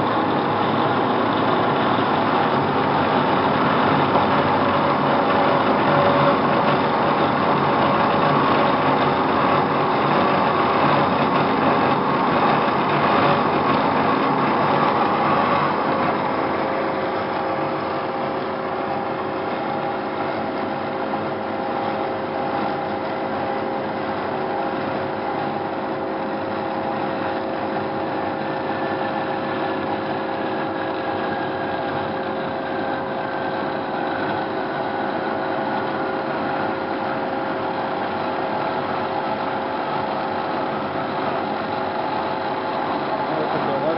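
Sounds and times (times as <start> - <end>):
machine hum with tones: 0.0 - 43.9.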